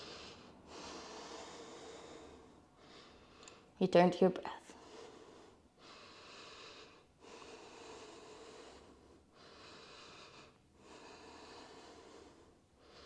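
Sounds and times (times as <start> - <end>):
faint slow breathing: 0.0 - 3.8, 4.6 - 13.0.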